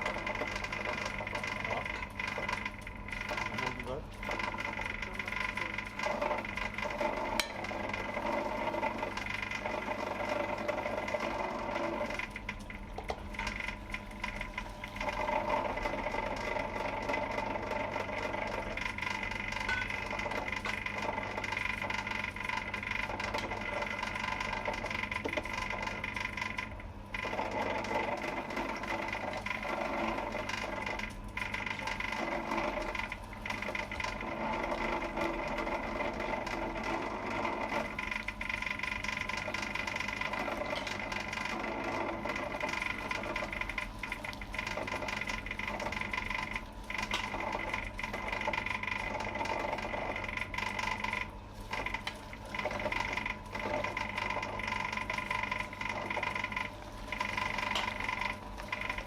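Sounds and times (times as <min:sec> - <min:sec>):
small electric machine rattling: 0:00.0 - 0:59.0.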